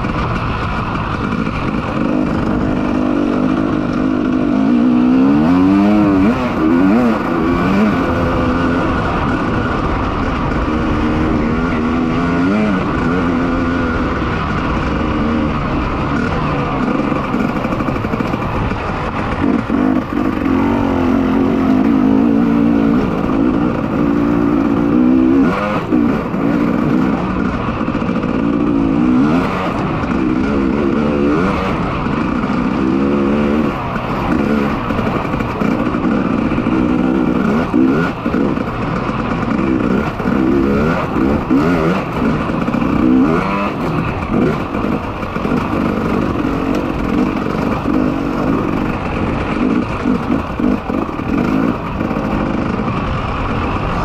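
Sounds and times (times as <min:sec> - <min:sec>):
motorcycle engine revving: 0:00.0 - 0:54.0
wind rushing over microphone: 0:00.0 - 0:54.0.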